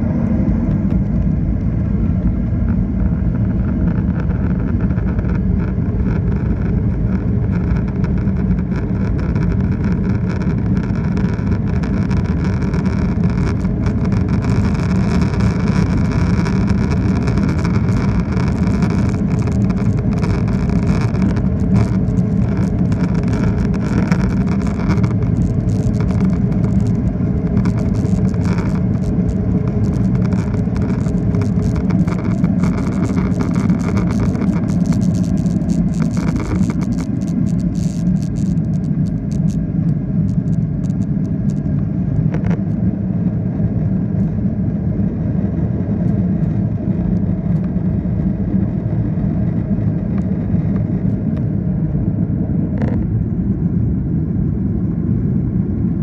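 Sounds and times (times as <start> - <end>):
jet engine roar with whine: 0.0 - 56.0
wheel rumble on runway: 0.0 - 56.0.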